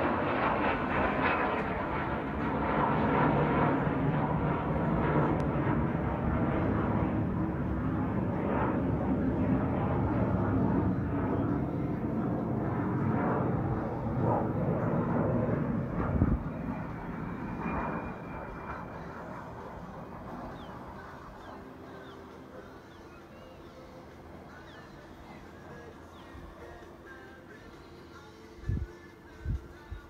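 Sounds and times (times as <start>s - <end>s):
aircraft engine drone: 0.0s - 30.0s.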